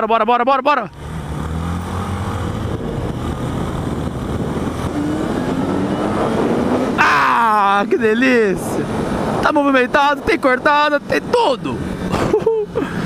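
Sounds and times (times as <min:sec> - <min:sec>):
motorcycle engine accelerating: 0:00.9 - 0:13.0
wind rushing: 0:01.1 - 0:12.2.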